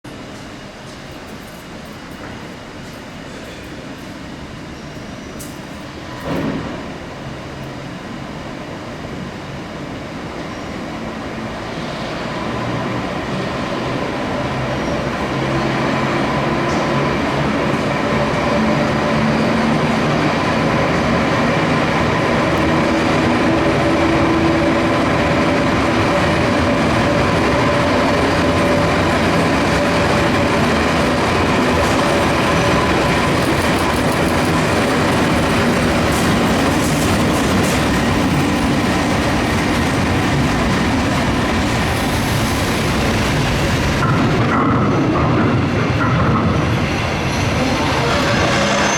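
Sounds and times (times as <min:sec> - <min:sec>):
train wheels clattering on rails: 0:00.3 - 0:07.0, 0:12.3 - 0:48.9.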